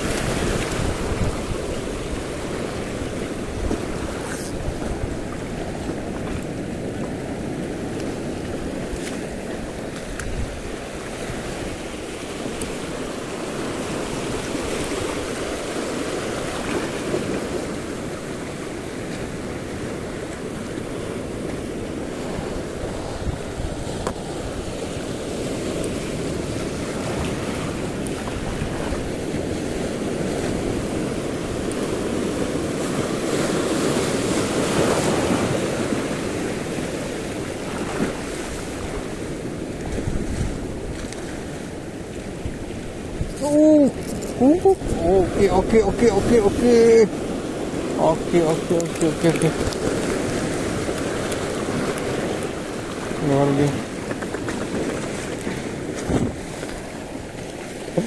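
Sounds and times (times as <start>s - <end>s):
waves washing over reef: 0.0s - 58.0s
wind on microphone: 0.0s - 58.0s.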